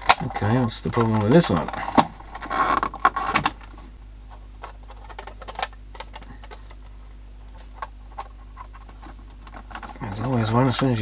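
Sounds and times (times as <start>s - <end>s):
plastic rustling and clicks: 0.0s - 11.0s.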